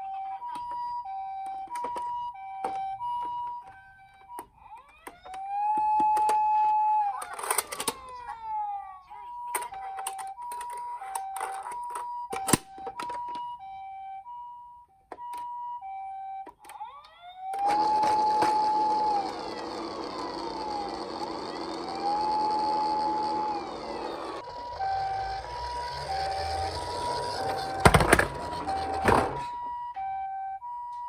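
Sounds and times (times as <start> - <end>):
two-tone hi-lo siren: 0.0 - 31.0
wailing siren: 0.0 - 31.0.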